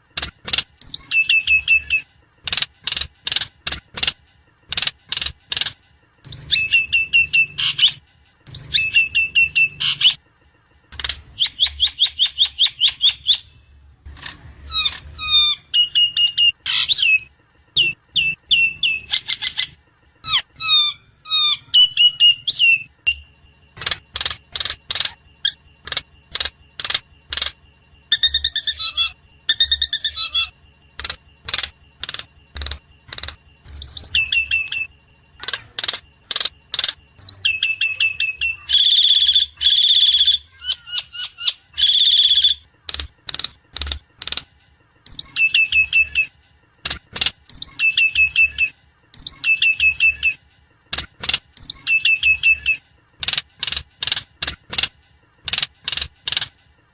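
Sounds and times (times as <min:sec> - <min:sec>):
bird harsh calls and whistles: 0:00.1 - 0:10.3, 0:10.9 - 0:46.4, 0:47.1 - 0:50.4, 0:51.2 - 0:54.8.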